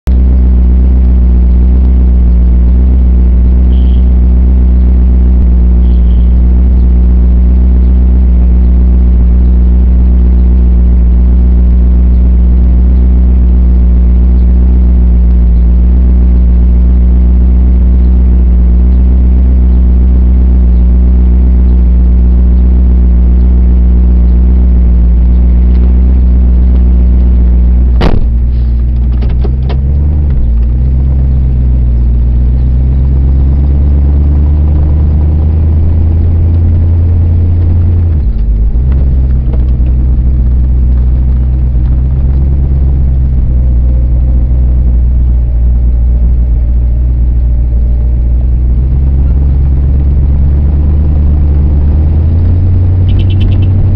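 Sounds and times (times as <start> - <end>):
vehicle engine idling: 0.0 - 53.9.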